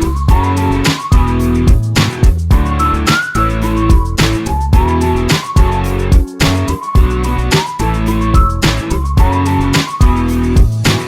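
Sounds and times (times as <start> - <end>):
guitar-led music with beat: 0.0 - 11.0.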